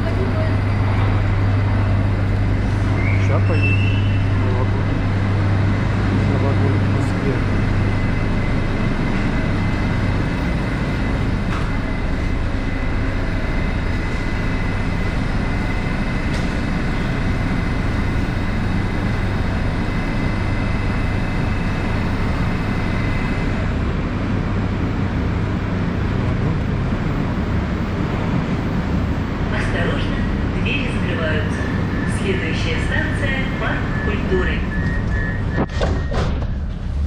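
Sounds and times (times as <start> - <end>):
train low hum: 0.0 - 37.0.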